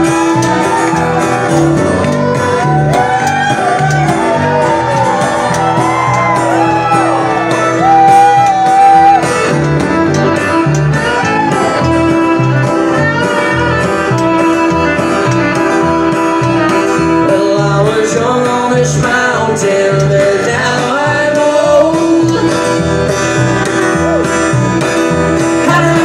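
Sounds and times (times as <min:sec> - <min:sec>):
fiddle melody: 0:00.0 - 0:26.0
strummed acoustic guitar: 0:00.0 - 0:26.0.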